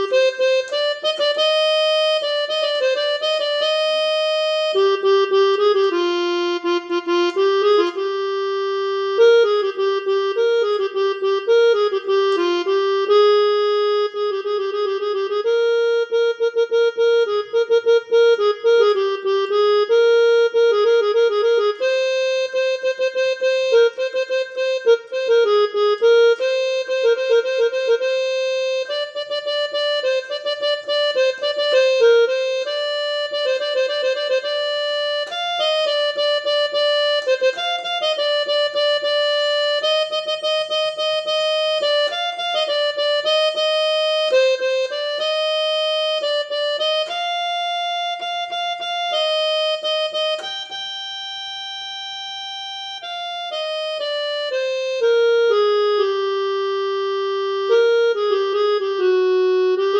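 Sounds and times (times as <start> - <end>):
electronic keyboard melody: 0.0 - 59.9.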